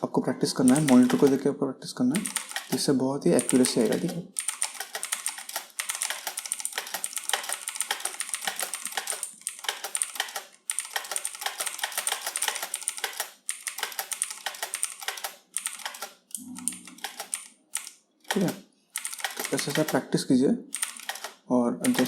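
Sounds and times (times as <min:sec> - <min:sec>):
fast typing on a keyboard: 0:00.6 - 0:01.4, 0:02.2 - 0:20.0, 0:20.7 - 0:22.0.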